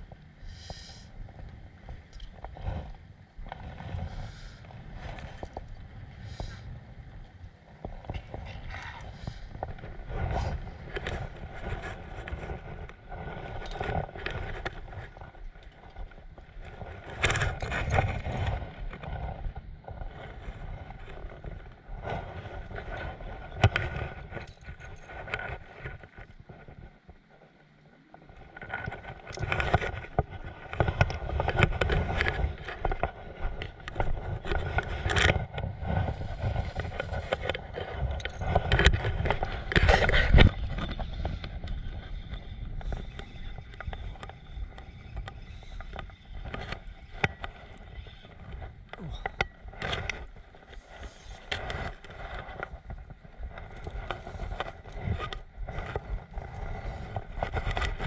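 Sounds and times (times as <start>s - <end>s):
wind buffeting microphone: 1.2s - 27.1s, 28.2s - 58.0s.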